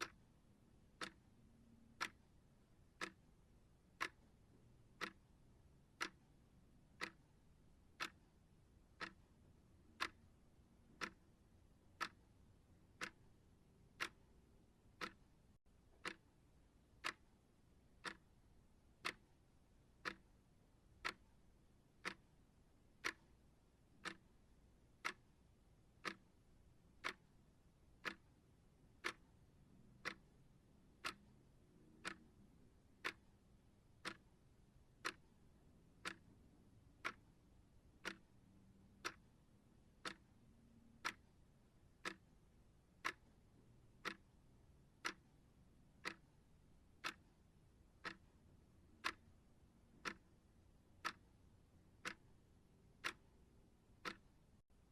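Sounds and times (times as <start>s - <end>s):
timer ticking: 0.0s - 54.9s.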